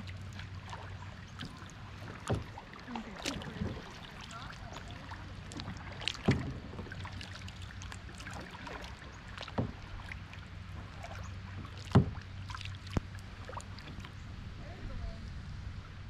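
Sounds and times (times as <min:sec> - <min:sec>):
paddle thumps and splashes: 0:00.0 - 0:14.2
boat rumbling on water: 0:00.0 - 0:16.0.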